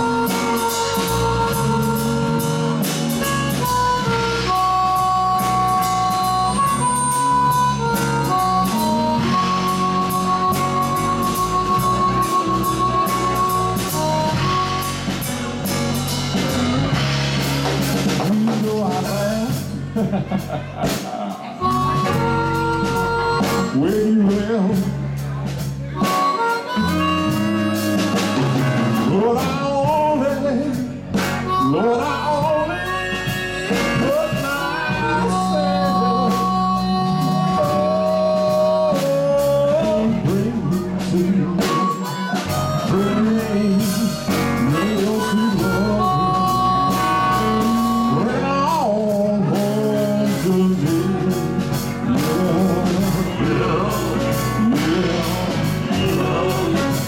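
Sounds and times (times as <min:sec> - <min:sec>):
harmonica wailing: 0:00.0 - 0:17.2, 0:21.6 - 0:24.4, 0:26.0 - 0:57.0
drums: 0:00.0 - 0:57.0
electric bass: 0:00.0 - 0:57.0
electric guitar: 0:00.0 - 0:57.0.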